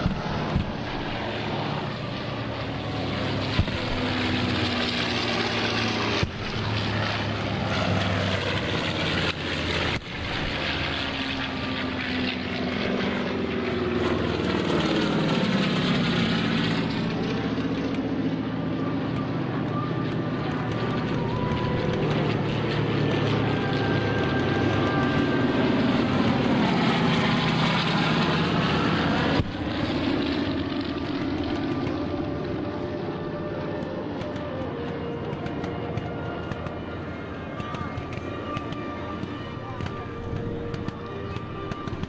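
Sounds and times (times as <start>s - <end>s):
propeller aircraft droning overhead: 0.0s - 42.0s.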